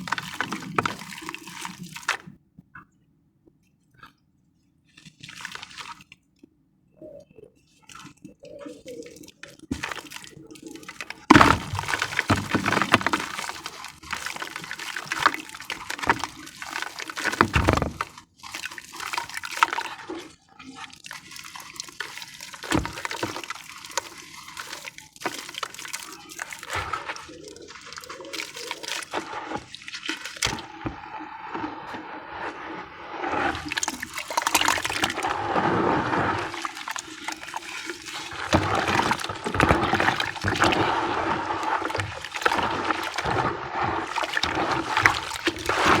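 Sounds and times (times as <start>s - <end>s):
wet crumbling and squishing: 0.0s - 2.3s, 9.6s - 20.3s, 21.1s - 46.0s.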